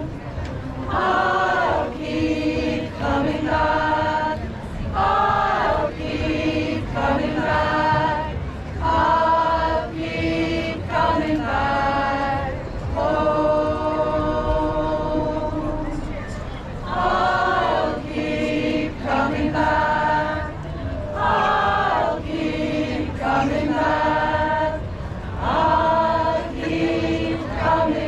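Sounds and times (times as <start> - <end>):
choir singing held notes: 0.9 - 16.1, 16.8 - 28.0.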